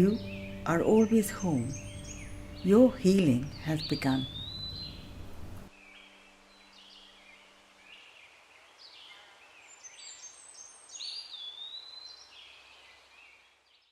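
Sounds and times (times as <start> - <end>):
songbirds chirping and whistling: 0.0 - 13.9.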